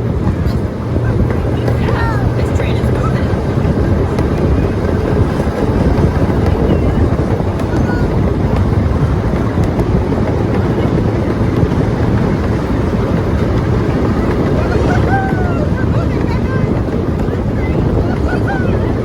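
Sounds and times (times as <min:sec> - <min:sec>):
train rumbling from on board: 0:00.0 - 0:19.0.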